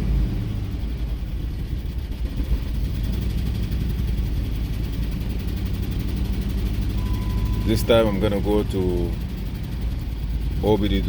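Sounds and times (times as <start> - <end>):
engine running with misfire: 0.0 - 11.0.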